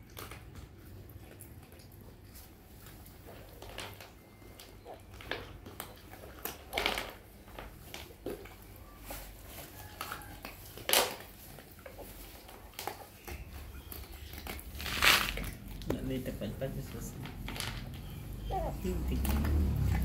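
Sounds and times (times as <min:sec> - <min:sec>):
dog chewing and lapping: 0:00.0 - 0:20.0.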